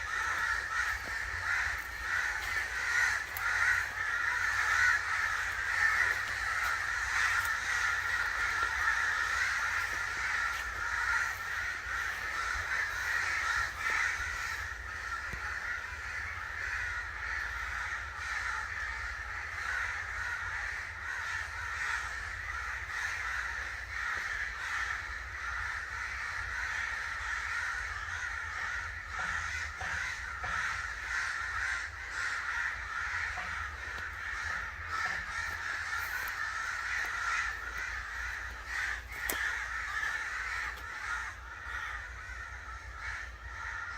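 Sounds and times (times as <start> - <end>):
crows cawing: 0.0 - 43.9.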